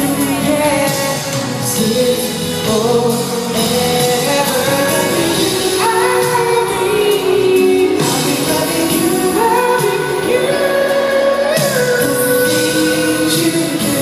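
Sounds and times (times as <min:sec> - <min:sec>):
backing music: 0:00.0 - 0:14.0
male vocal group singing: 0:00.0 - 0:14.0.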